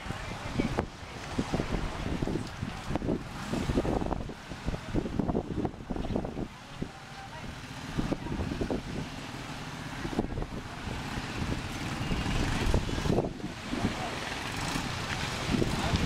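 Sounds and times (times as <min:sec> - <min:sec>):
motor traffic: 0:00.0 - 0:16.0
wind buffeting the microphone: 0:00.0 - 0:16.0.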